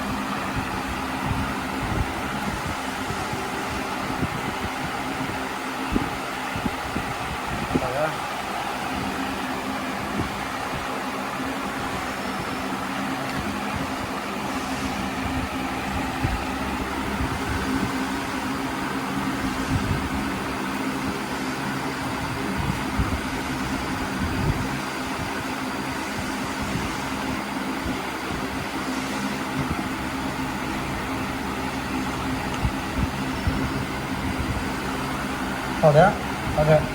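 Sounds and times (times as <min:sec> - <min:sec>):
motor humming: 0:00.0 - 0:36.9.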